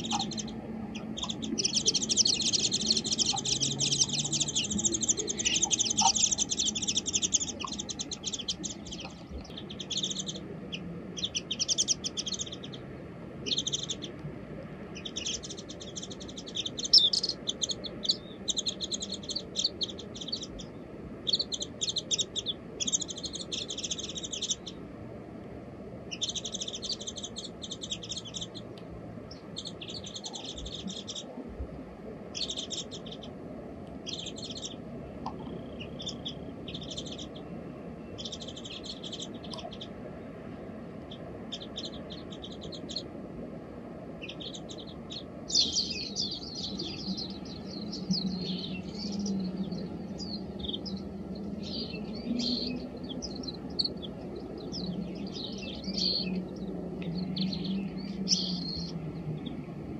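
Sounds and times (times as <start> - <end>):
small songbirds chirping: 0.0 - 25.0, 25.8 - 59.9.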